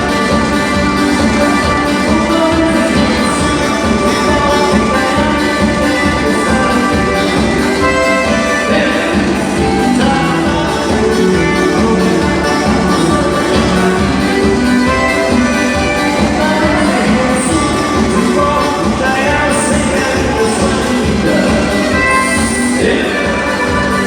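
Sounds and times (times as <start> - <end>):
instrumental music with steady beat: 0.0 - 24.0.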